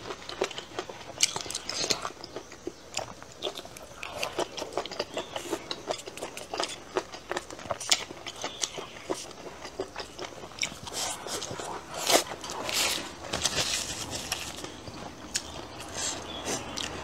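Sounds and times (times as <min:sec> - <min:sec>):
chewing with wet mouth clicks: 0:00.0 - 0:17.0.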